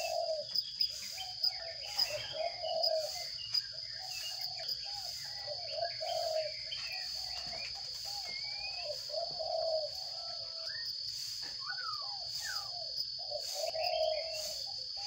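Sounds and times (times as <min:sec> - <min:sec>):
high bird chirps: 0:00.0 - 0:15.0
low hoarse bird calls: 0:00.0 - 0:15.0.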